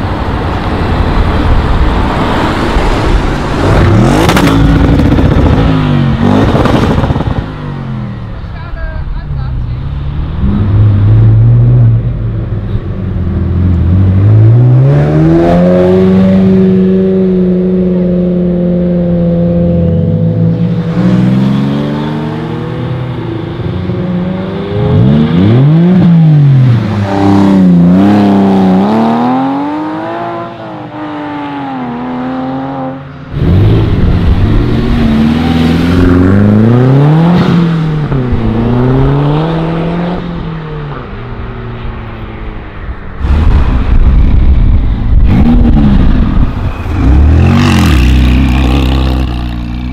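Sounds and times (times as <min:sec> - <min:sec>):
sports car engines accelerating: 0:00.1 - 0:49.9.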